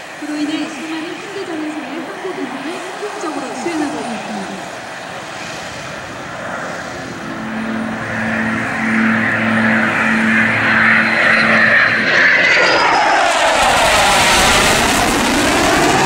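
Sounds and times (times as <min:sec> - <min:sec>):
faint high whine: 0:00.0 - 0:16.0
jet engine roar: 0:00.0 - 0:16.0.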